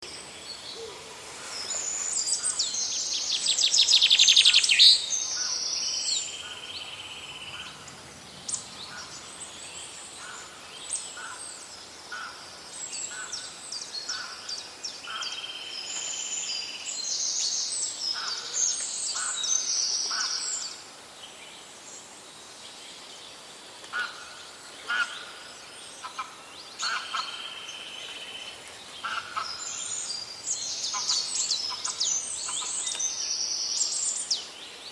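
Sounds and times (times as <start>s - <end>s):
birds singing and calling: 0.0s - 34.9s.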